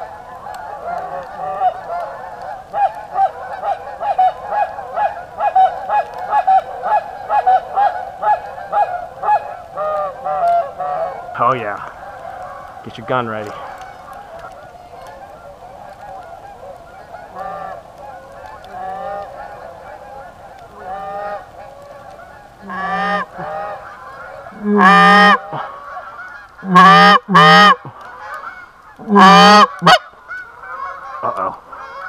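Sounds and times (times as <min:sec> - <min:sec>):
geese honking: 0:00.0 - 0:32.0.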